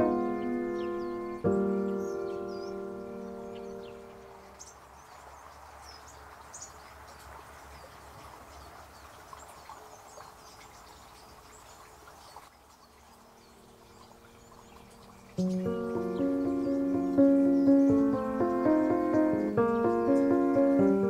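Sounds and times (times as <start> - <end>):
small birds chirping: 0.0 - 21.0
small stream rushing: 0.0 - 21.0.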